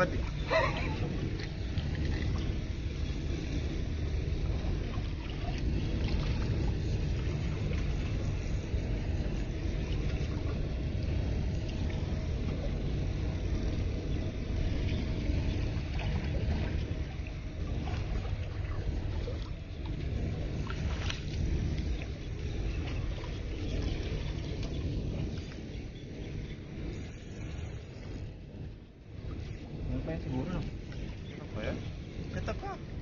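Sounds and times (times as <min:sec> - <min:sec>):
faint steady tone: 0:00.0 - 0:33.0
low rumbling noise: 0:00.0 - 0:33.0.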